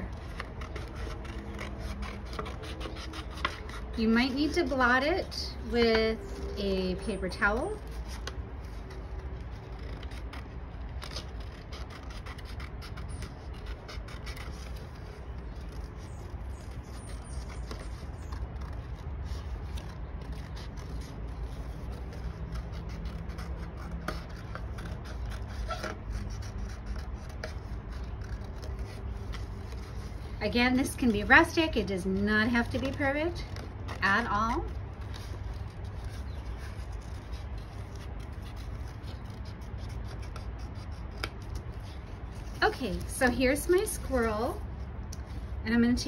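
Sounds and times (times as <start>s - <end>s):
scissors snipping paper: 0.0s - 45.3s
paper rustling: 0.0s - 45.6s
low steady hum: 0.0s - 46.0s.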